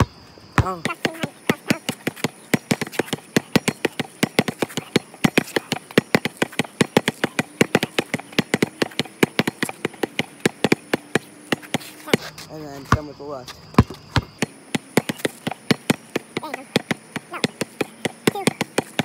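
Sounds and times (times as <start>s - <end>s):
basketball dribbling on concrete: 0.0s - 19.0s.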